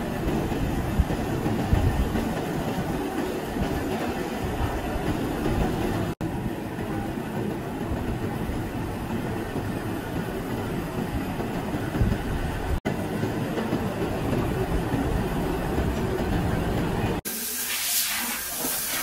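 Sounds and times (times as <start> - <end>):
factory machinery rumbling: 0.0 - 17.2.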